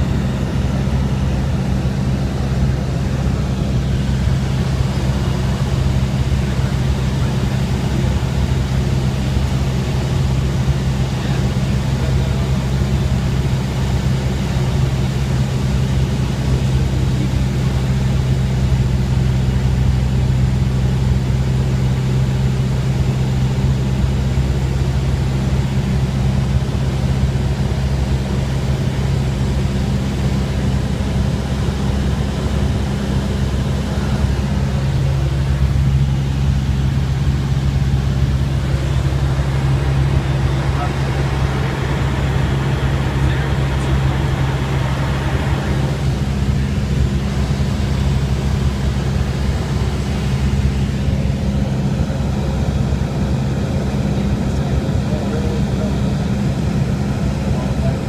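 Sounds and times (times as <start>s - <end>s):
small plane cabin drone: 0.0s - 58.0s.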